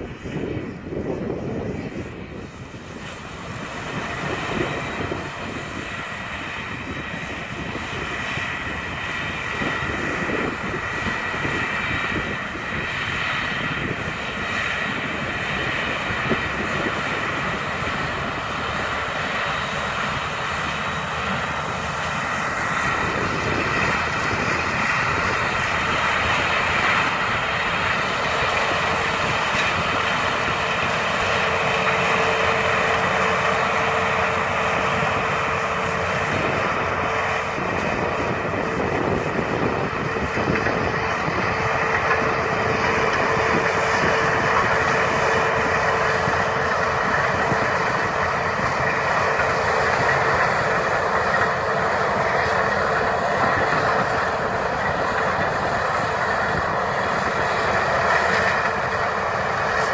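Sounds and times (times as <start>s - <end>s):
combine harvester droning: 0.0s - 59.9s
tractor engine: 0.0s - 59.9s.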